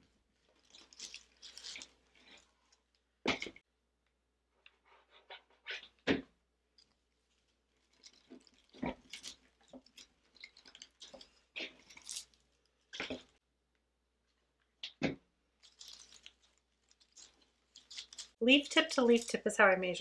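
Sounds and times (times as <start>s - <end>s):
artificial stems rustling and crackling: 0.0s - 3.7s, 4.5s - 13.4s, 14.2s - 20.0s.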